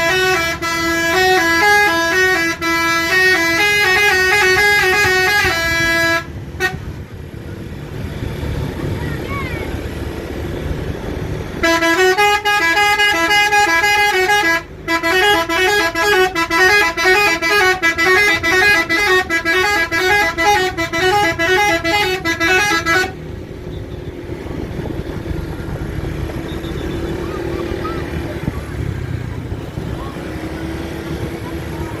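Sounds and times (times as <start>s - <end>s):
bus horn playing a melody: 0.0s - 7.4s, 11.5s - 32.0s
engine rumbling: 0.0s - 32.0s.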